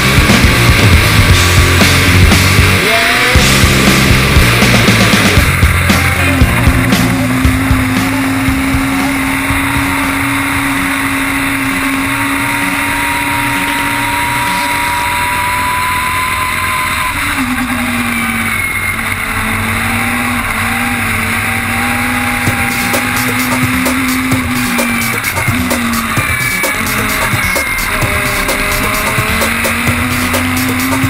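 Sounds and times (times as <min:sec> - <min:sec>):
motorcycle engine at high revs: 0:00.0 - 0:31.0
road noise: 0:00.0 - 0:31.0.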